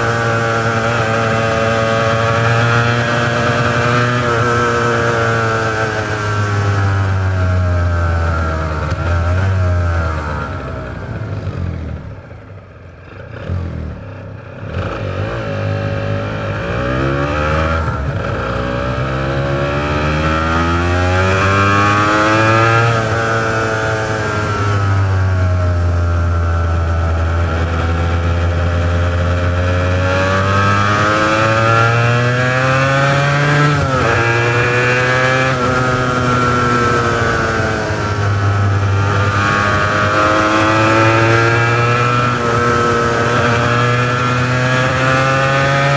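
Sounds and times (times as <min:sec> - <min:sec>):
two-stroke motorcycle engine revving: 0:00.0 - 0:45.9.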